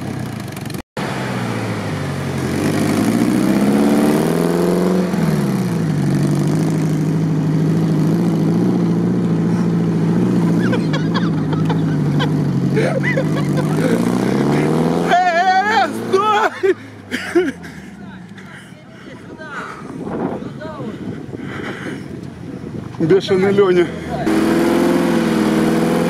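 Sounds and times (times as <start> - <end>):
car engine revving: 0.0 - 18.6, 22.2 - 26.0.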